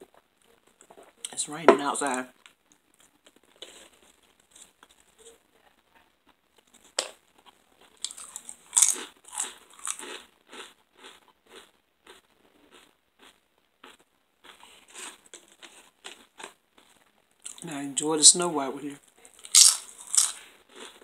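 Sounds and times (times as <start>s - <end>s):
person crunching and chewing food: 0.7s - 5.2s, 6.6s - 17.6s, 19.1s - 21.0s.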